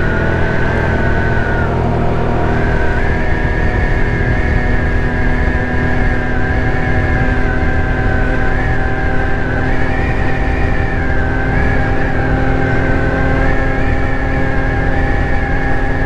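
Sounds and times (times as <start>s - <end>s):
scooter engine whining: 0.0s - 16.0s.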